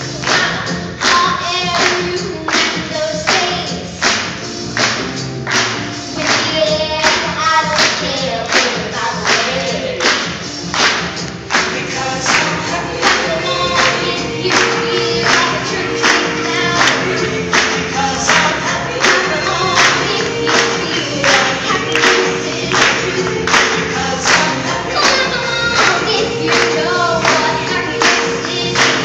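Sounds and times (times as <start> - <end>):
gospel-style song with singing voices: 0.0 - 29.0
band with steady strong beat: 2.8 - 29.0.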